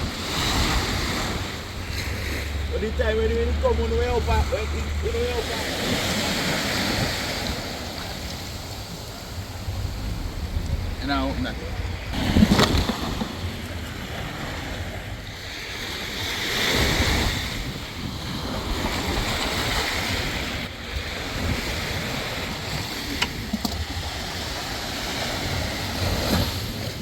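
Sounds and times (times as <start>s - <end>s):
sea waves washing: 0.0s - 27.0s
wind on microphone: 0.0s - 27.0s.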